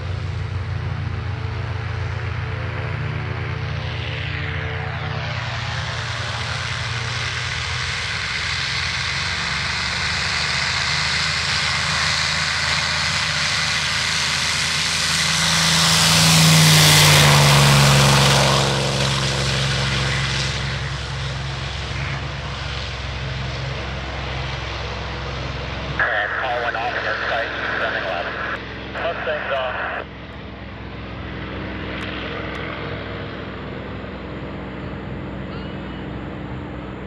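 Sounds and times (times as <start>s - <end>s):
propeller plane engine at full power: 0.0s - 37.0s.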